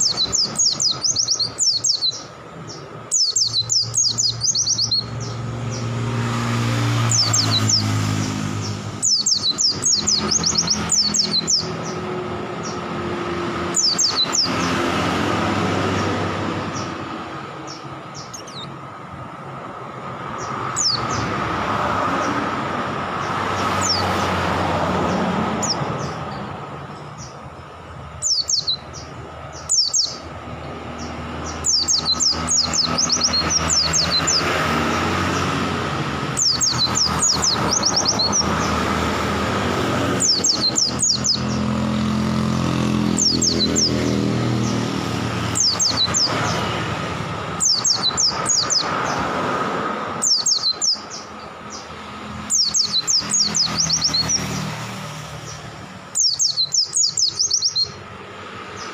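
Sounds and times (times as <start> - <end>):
bird twittering chirps: 0.0 - 19.2, 20.0 - 22.5, 23.1 - 58.9.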